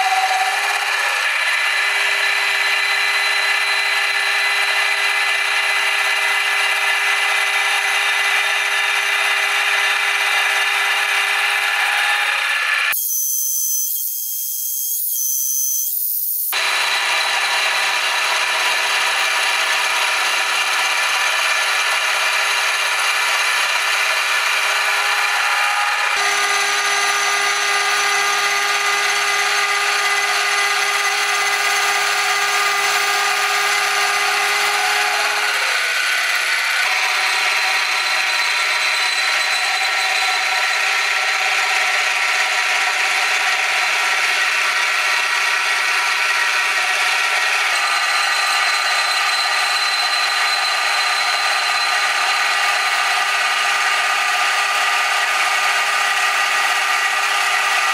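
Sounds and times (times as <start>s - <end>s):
milling machine cutting metal: 0.0s - 57.9s.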